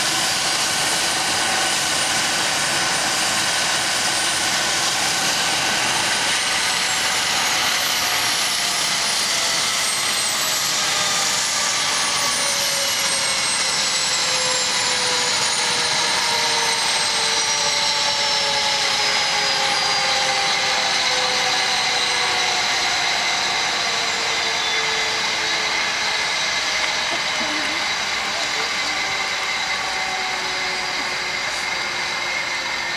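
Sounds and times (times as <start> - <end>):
helicopter rotor rush: 0.0 - 32.9
turbine whines falling in pitch: 0.0 - 32.9.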